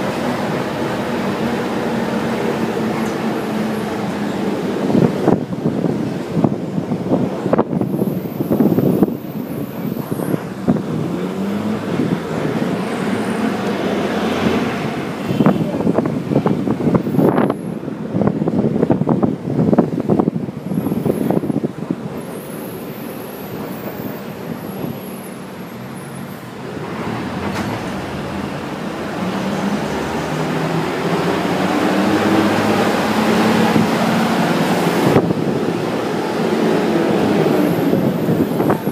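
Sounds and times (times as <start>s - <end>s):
moving vehicle rumble: 0.0s - 38.9s
road traffic hum and hiss: 0.0s - 38.9s.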